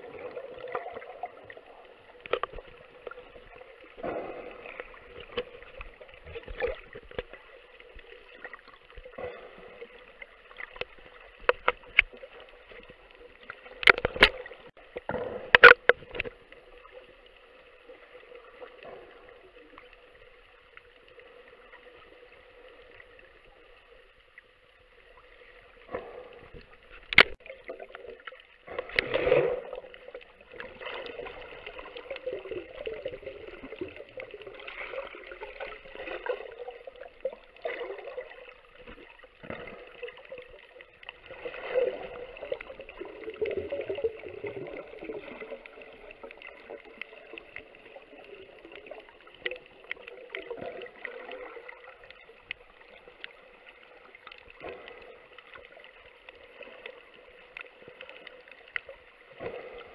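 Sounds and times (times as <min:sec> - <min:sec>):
underwater gurgling water: 0:00.0 - 0:59.9.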